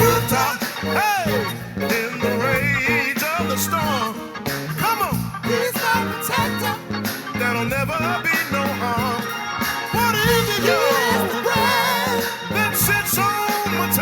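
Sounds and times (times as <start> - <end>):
bass line: 0.0 - 14.0
live gospel band music: 0.0 - 14.0.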